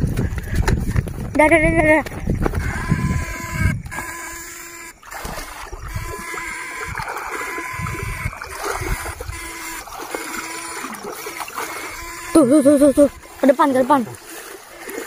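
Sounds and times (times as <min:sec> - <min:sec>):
wading through shallow water: 0:00.0 - 0:15.0
water splashes: 0:00.0 - 0:15.0
held tones: 0:01.4 - 0:14.2.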